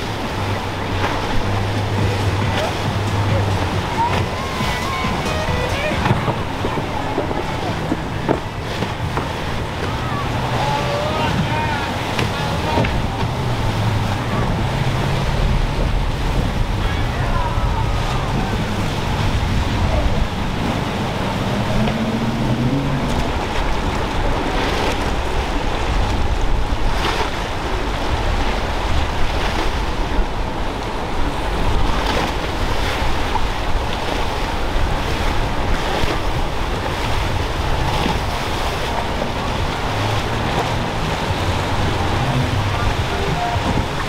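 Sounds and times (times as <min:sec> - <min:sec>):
outboard engine: 0:00.0 - 0:44.0
water rushing: 0:00.0 - 0:44.0
waves crashing: 0:00.0 - 0:44.0
wind noise on microphone: 0:00.0 - 0:44.0.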